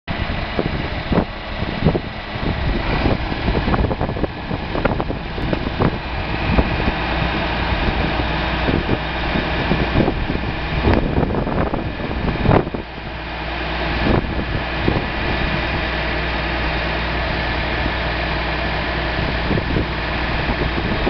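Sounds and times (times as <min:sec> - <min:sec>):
tractor diesel engine running: 0:00.1 - 0:21.0
wind buffeting microphone: 0:00.1 - 0:21.0.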